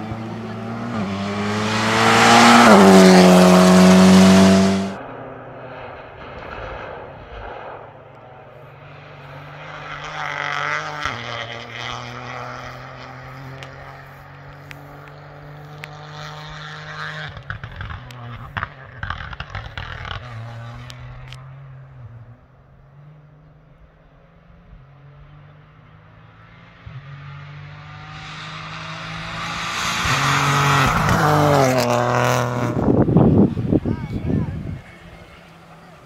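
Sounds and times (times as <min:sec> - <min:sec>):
rally car high-revving engine: 0:00.0 - 0:06.9, 0:08.8 - 0:36.0
distant rally car engine: 0:00.0 - 0:36.0.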